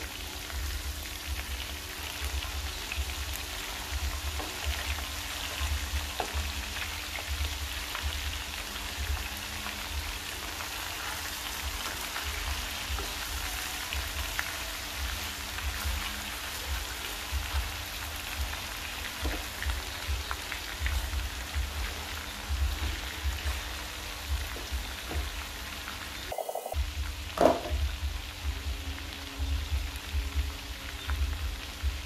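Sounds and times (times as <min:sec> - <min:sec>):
meat frying in hot oil: 0:00.0 - 0:32.0.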